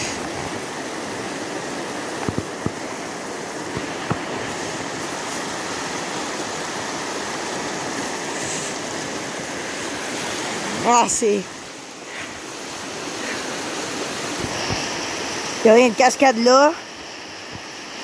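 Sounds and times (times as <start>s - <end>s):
river rushing over rapids: 0.0s - 18.0s.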